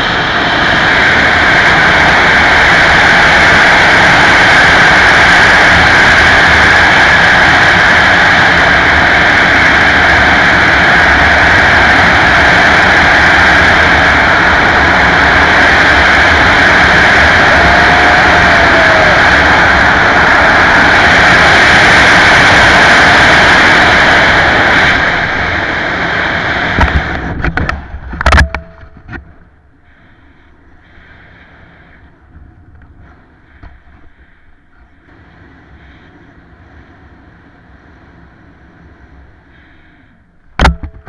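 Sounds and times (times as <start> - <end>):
fluttering wind under canopy: 0.0 - 41.0
wind rushing on microphone: 0.0 - 41.0.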